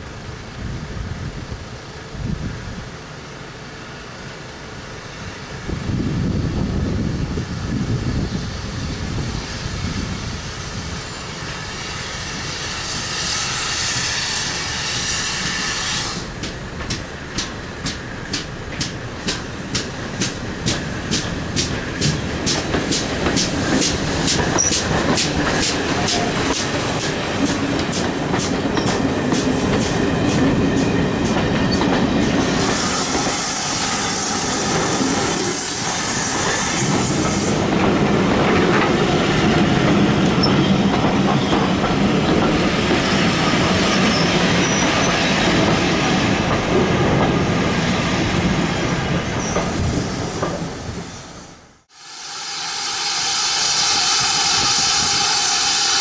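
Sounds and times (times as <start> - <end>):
train coaches rumbling: 0.1 - 51.9, 52.5 - 56.0
steam locomotive exhaust beats: 5.3 - 48.5, 51.9 - 56.0
steam hissing: 6.6 - 47.0, 49.6 - 56.0.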